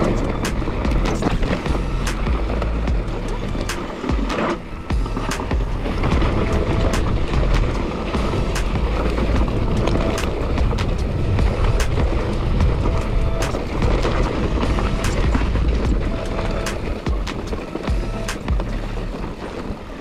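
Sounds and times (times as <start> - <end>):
bike clicks and rattles: 0.0 - 20.0
tyres crunching over stones: 0.0 - 20.0
wind buffeting microphone: 0.0 - 20.0.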